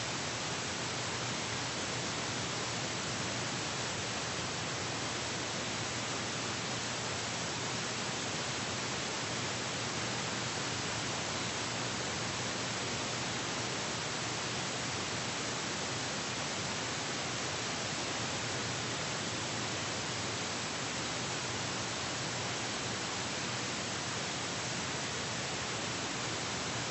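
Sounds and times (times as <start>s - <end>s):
steady hiss: 0.0s - 26.9s.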